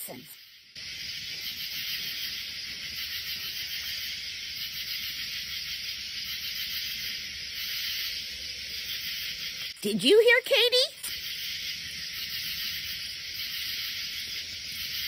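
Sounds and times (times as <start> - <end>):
katydids chorus: 0.0 - 15.0.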